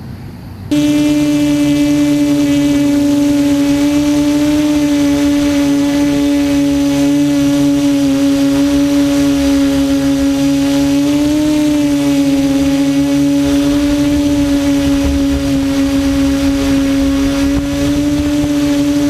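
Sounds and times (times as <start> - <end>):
quadcopter motors and propellers: 0.0 - 19.0.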